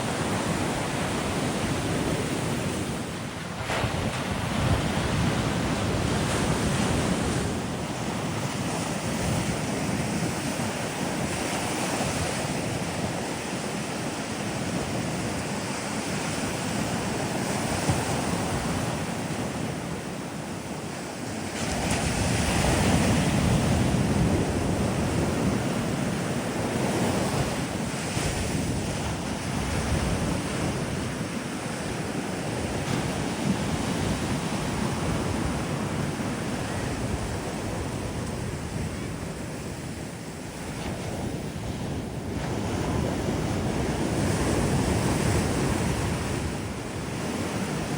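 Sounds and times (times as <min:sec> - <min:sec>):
sea waves on sandy beach: 0:00.0 - 0:47.9.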